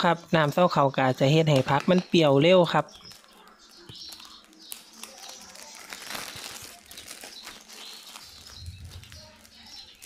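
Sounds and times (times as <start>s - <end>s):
plastic bag crinkling: 1.4s - 10.0s.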